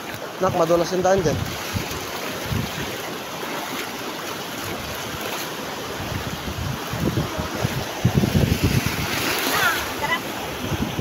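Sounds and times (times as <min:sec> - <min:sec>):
surf washing over rocks: 0:00.0 - 0:11.0
wind buffeting microphone: 0:00.4 - 0:03.2, 0:04.6 - 0:11.0.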